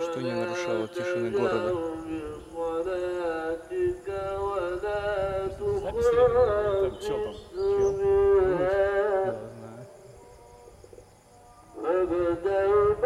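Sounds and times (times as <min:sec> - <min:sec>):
man singing wordless tune: 0:00.0 - 0:10.1, 0:11.8 - 0:13.0.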